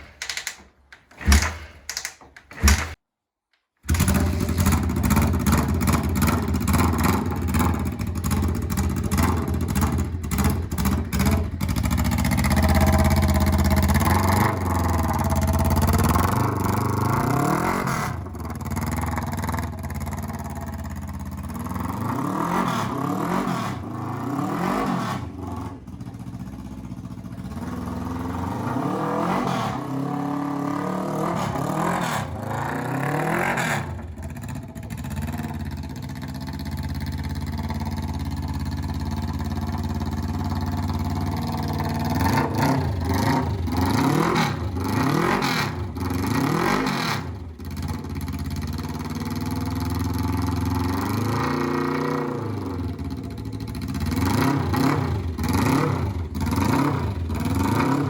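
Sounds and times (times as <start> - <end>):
motorcycle engine revving: 3.8 - 58.0.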